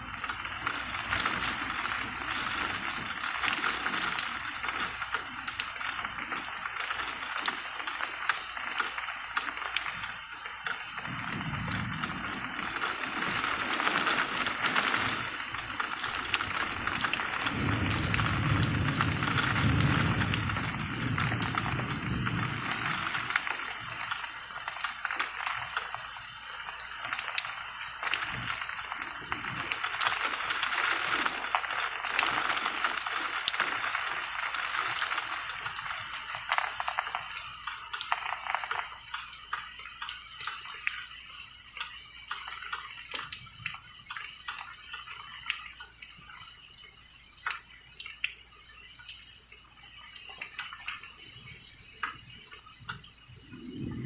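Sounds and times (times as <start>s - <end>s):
rain hissing: 0.0s - 54.0s
water dripping: 0.0s - 54.0s.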